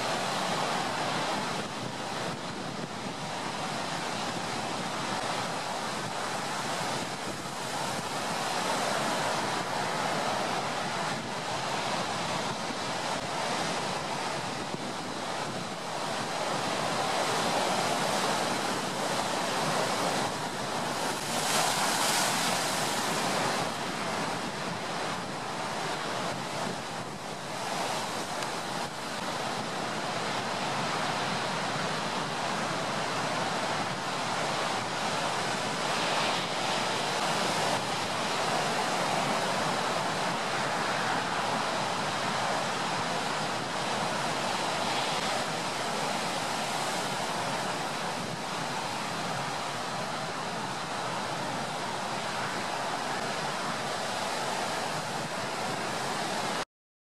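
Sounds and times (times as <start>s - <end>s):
ocean surf rushing: 0.0s - 56.6s.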